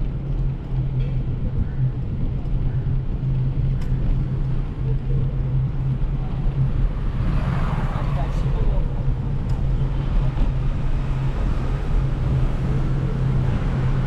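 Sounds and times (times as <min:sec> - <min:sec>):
road noise rumble: 0:00.0 - 0:14.0
vehicle engine humming: 0:00.0 - 0:14.0.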